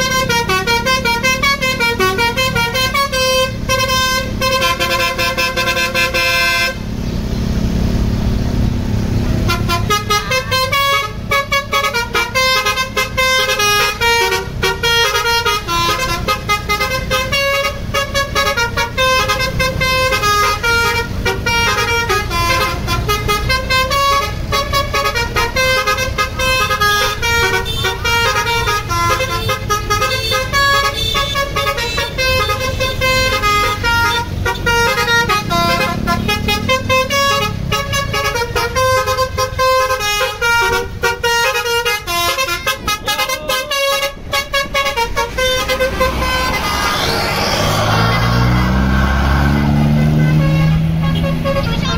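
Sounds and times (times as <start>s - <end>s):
multi-tone air horn melody: 0.0s - 6.9s, 9.4s - 51.9s
bus engine running: 0.0s - 51.9s.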